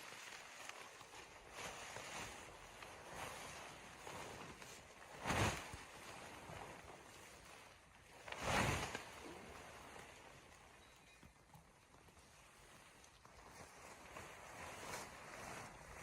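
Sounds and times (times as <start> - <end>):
crunches in snow: 0.0 - 10.4, 12.3 - 16.0.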